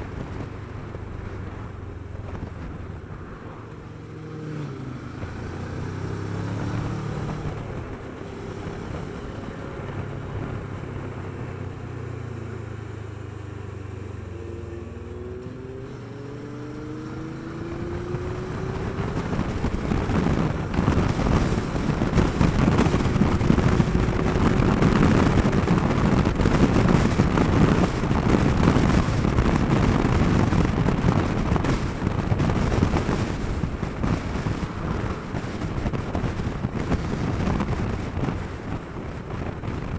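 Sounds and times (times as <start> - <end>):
wind rush on microphone: 0.0 - 12.6, 13.5 - 39.9
motorcycle engine revving: 3.5 - 39.9.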